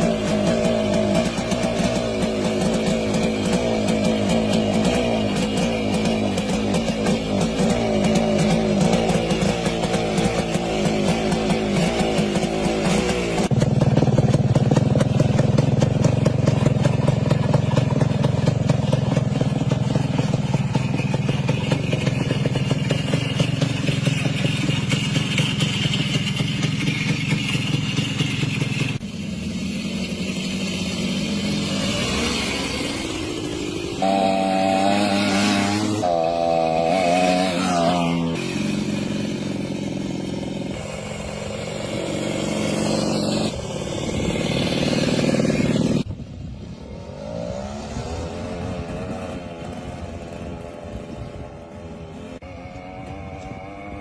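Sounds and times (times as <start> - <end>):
two-stroke motorcycle engine running: 0.0 - 54.0.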